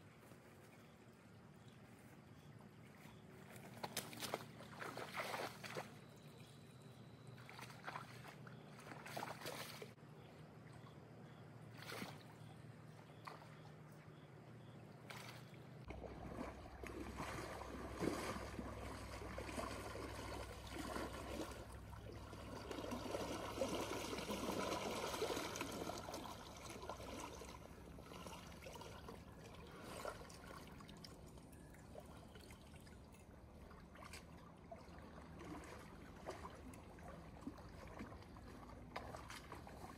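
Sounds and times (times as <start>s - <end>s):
river water trickling: 2.9s - 39.9s.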